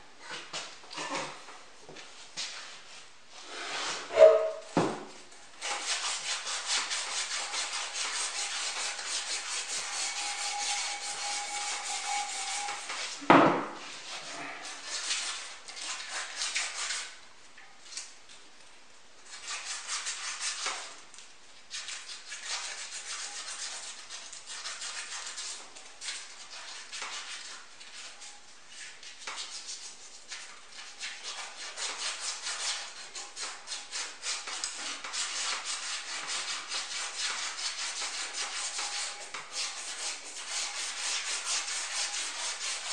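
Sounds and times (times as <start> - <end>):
rubbing strokes on metal rods: 3.4 - 4.7, 5.6 - 17.2, 19.3 - 21.0, 21.7 - 42.9.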